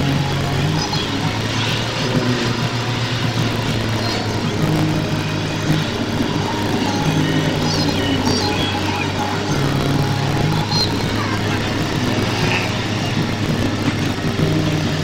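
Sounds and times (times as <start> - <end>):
music with held low notes: 0.0 - 15.0
vehicle engine and road rumble: 0.0 - 15.0.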